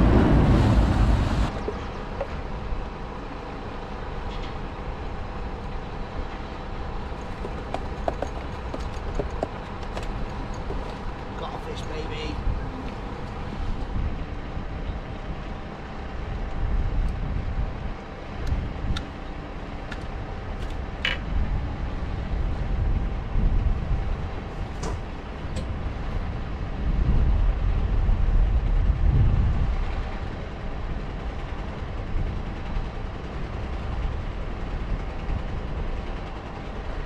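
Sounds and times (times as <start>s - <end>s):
low uneven rumble: 0.0s - 37.0s.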